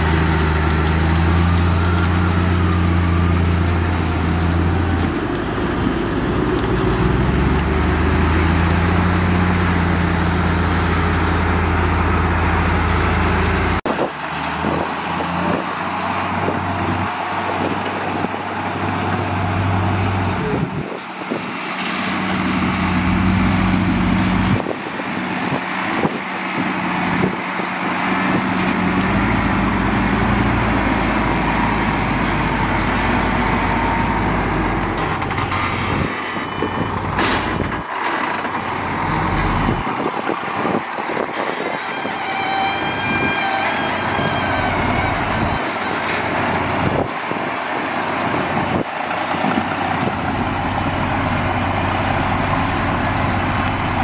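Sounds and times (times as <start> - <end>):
heavy diesel machinery working: 0.0 - 54.0.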